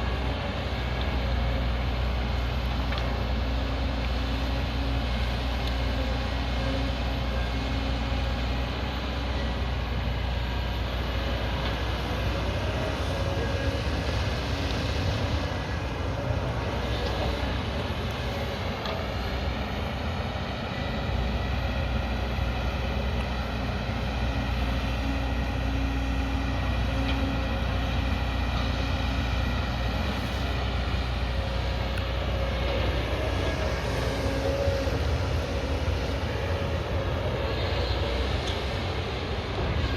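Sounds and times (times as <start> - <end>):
excavator diesel engine running: 0.0 - 39.9
hydraulic whine: 0.0 - 39.9.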